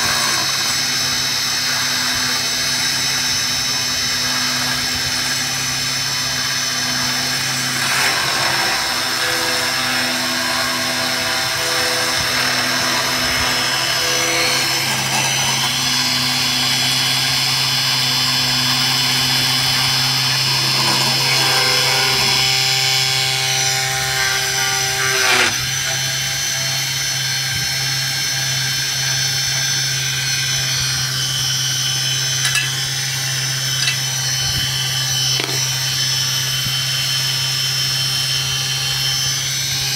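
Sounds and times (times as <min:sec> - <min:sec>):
spindle motor whining: 0:00.0 - 0:39.9.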